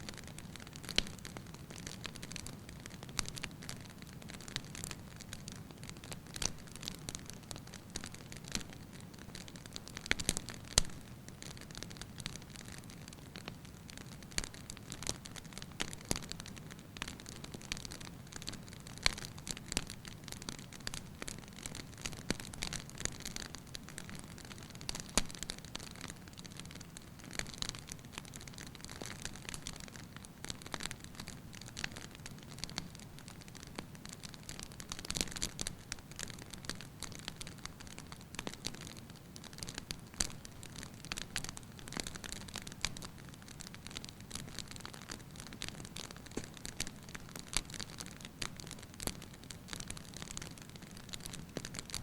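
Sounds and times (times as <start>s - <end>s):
firewood crackling and popping: 0.0s - 52.0s.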